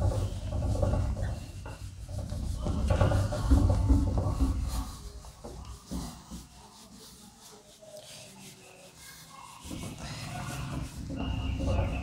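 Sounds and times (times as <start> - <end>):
duster rubbing whiteboard: 0.0 - 12.0.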